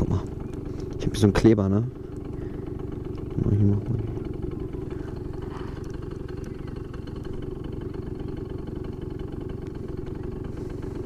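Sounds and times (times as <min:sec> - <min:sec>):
scooter two-stroke engine idling: 0:00.0 - 0:11.0.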